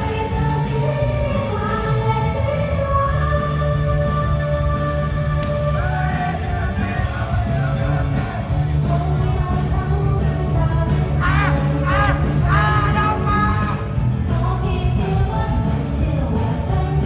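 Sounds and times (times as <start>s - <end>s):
live pop-rock music: 0.0s - 17.0s
sung vocals: 0.0s - 17.0s.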